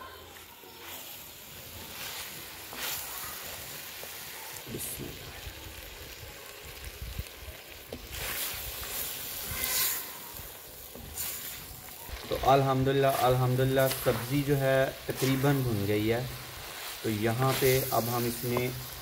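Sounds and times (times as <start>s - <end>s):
vegetables sizzling in a pot: 0.0s - 19.0s
wooden spatula stirring and scraping: 0.2s - 4.4s, 7.8s - 19.0s.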